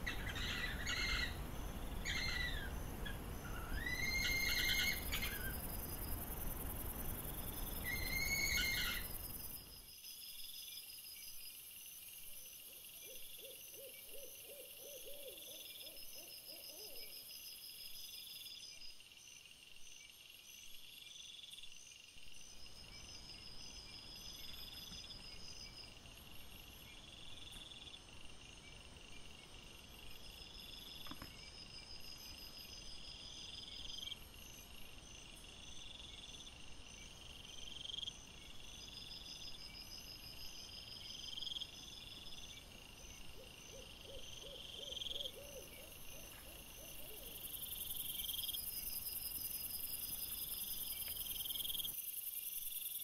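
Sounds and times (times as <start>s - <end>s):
insect chirp: 0.0s - 53.0s.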